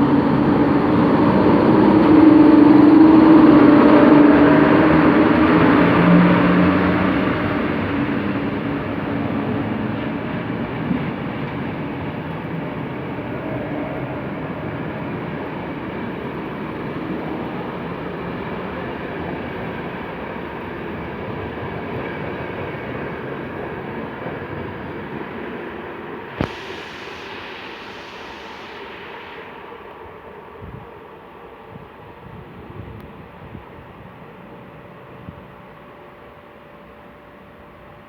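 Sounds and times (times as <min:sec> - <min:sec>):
passenger train rumbling past: 0:00.0 - 0:38.0.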